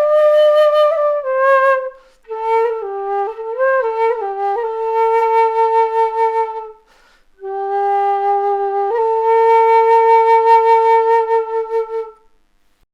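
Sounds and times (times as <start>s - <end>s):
flute playing slow held notes: 0.0s - 12.3s.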